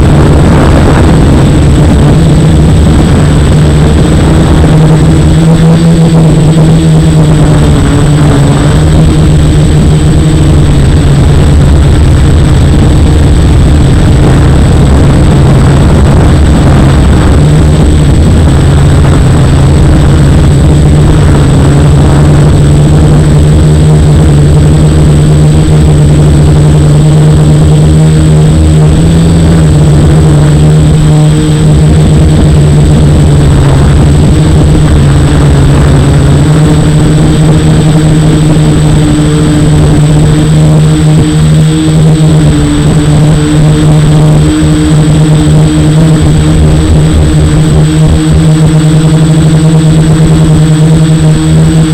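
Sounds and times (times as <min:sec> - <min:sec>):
drone motors humming and whining: 0:00.0 - 0:51.9.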